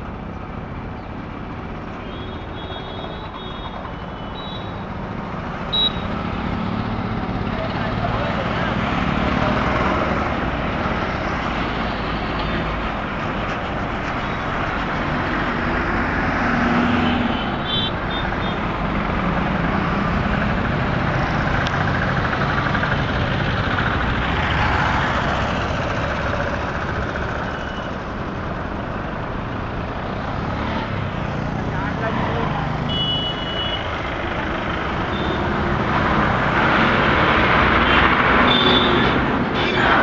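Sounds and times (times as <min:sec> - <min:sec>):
auto-rickshaw engines passing: 0:03.1 - 0:40.0.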